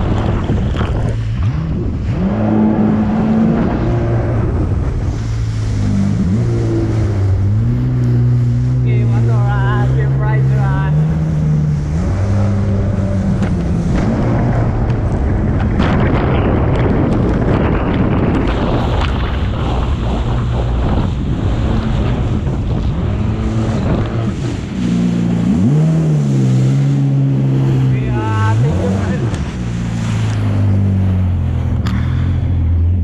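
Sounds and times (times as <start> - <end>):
wind buffeting microphone: 0.0 - 32.8
jet ski engine running: 0.0 - 33.0.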